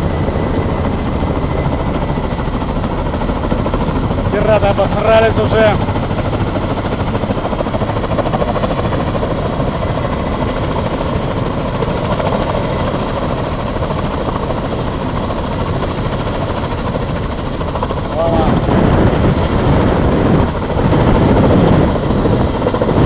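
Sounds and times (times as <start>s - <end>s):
helicopter rotor and turbine noise: 0.0s - 23.0s.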